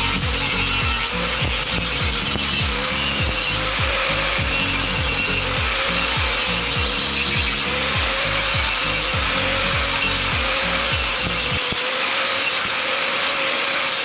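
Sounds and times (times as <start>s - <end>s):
power grinder grinding steel: 0.0s - 14.0s.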